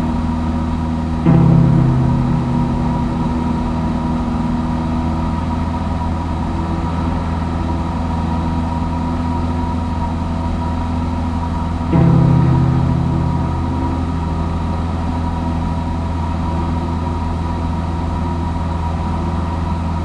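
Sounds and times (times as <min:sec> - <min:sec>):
loud low hum: 0:00.0 - 0:20.0.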